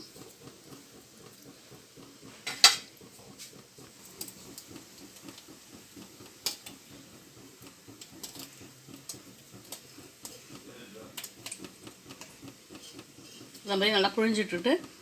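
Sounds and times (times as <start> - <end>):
press knocking against pot: 0.0 - 15.0.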